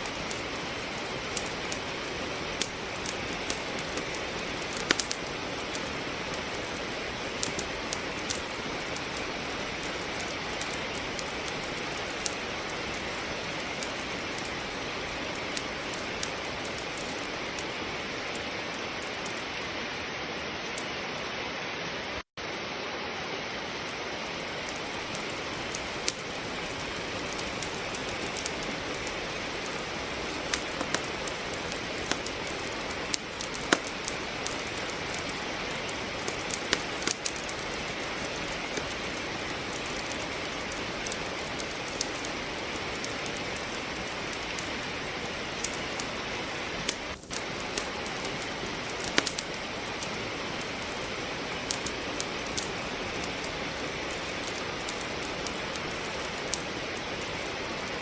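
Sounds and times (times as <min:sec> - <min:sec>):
wood crackling in a fireplace: 0:00.0 - 0:22.8, 0:23.6 - 0:58.0
steady rain: 0:00.0 - 0:58.0.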